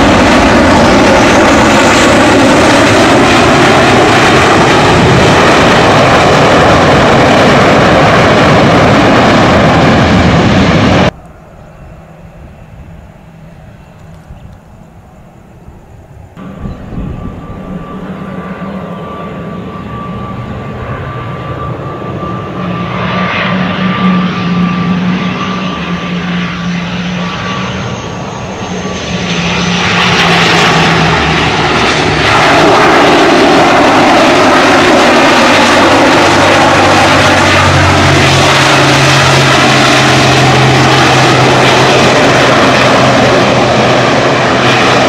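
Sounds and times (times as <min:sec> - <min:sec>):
high engine whine: 0:00.0 - 0:45.0
propeller airplane drone: 0:00.0 - 0:45.0.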